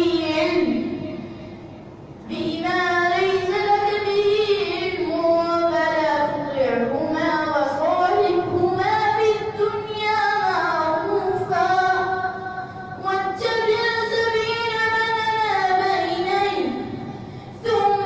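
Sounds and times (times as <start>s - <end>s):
boy chanting into a microphone: 0.0s - 1.5s, 2.2s - 18.0s.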